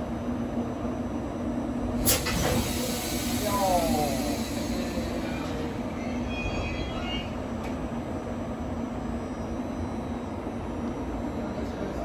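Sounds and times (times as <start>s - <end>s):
idle electric train hum: 0.0s - 12.0s.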